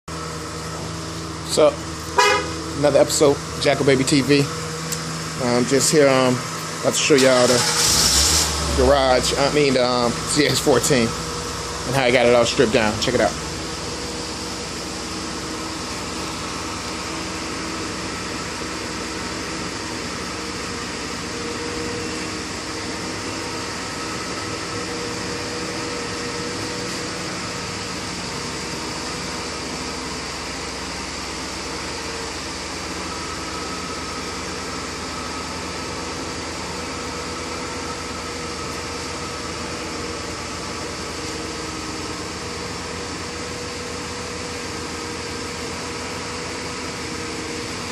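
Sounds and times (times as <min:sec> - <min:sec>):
mechanical hum and whir: 0:00.1 - 0:47.9.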